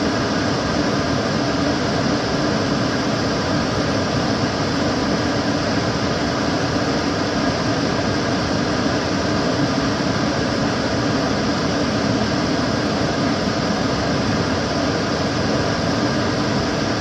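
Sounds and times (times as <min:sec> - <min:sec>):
extractor fan running: 0:00.0 - 0:17.0.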